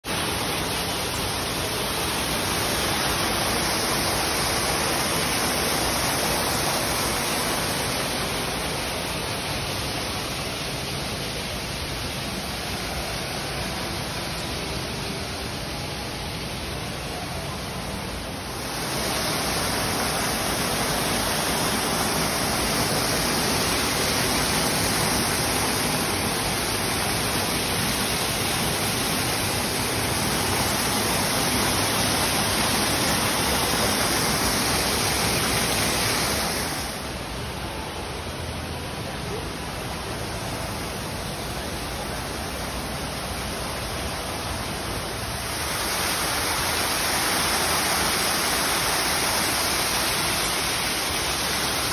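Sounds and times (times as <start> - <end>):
waterfall splashing into pool: 0.0 - 51.9.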